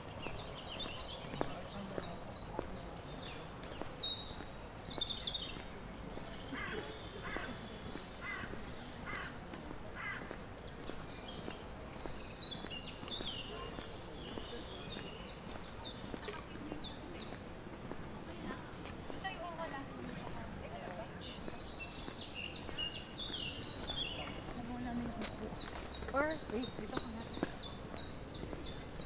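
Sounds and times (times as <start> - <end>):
low outdoor background noise: 0.0 - 29.0
songbirds calling: 0.0 - 29.0.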